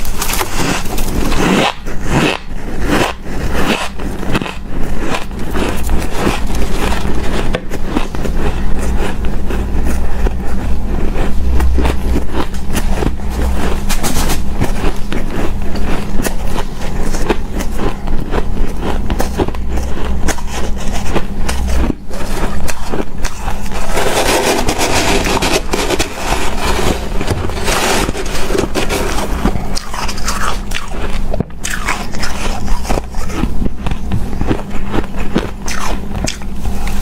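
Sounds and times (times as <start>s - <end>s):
ice crunching being chewed: 0.0s - 37.0s.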